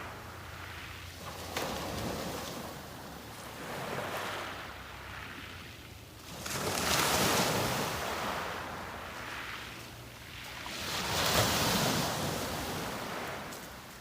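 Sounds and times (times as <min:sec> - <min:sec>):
sea waves breaking on beach: 0:00.0 - 0:14.0.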